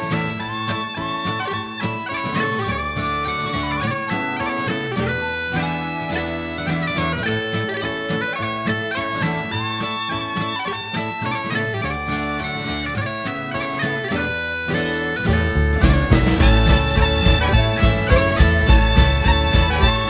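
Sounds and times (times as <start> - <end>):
bagpipes playing melody over drones: 0.0 - 20.0.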